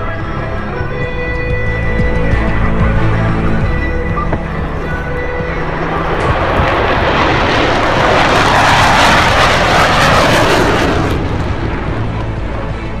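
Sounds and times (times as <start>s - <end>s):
fighter jets roaring past: 1.7s - 13.0s.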